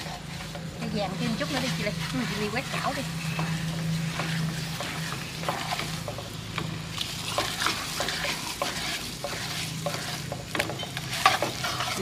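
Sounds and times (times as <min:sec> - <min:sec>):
utensil scraping pan: 0:00.0 - 0:06.4, 0:07.0 - 0:12.0
sausages sizzling in frying pan: 0:00.0 - 0:12.0.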